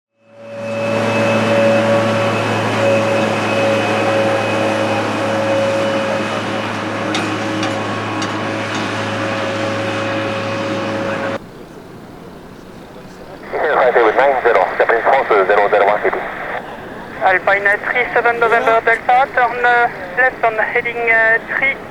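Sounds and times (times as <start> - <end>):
jet engines roaring and whining: 0.2 - 21.9.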